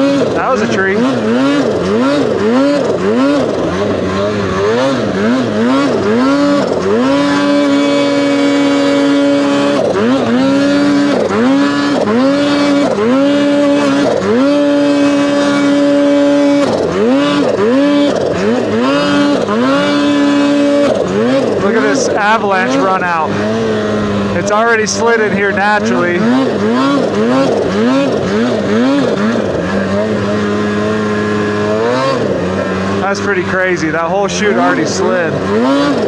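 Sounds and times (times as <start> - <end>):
snowmobile engine revving: 0.0 - 36.0.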